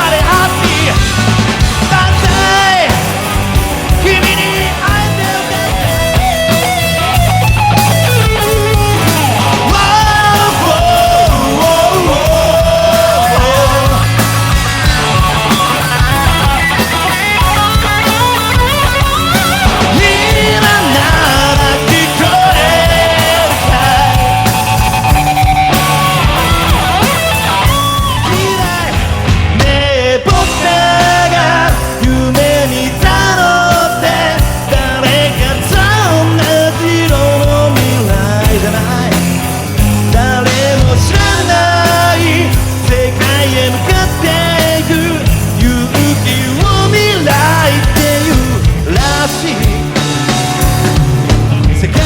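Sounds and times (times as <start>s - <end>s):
live rock band playing: 0.0s - 52.0s
melodic lead line: 0.0s - 52.0s.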